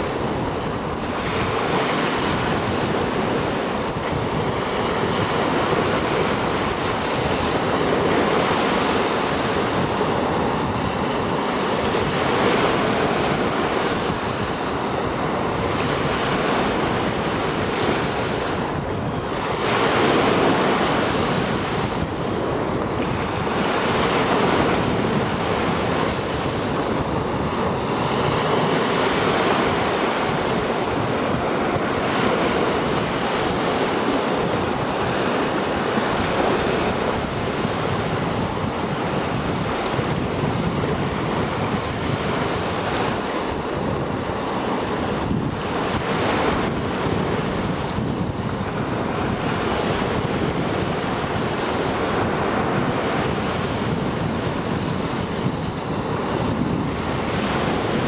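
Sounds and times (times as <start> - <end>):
waves washing up shore: 0.0 - 58.0.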